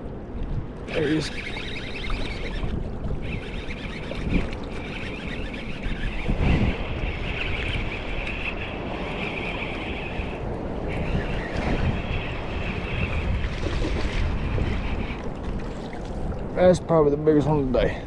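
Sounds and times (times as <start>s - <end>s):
choppy water washing around kayak: 0.0s - 16.7s
wind buffeting microphone: 0.0s - 18.0s.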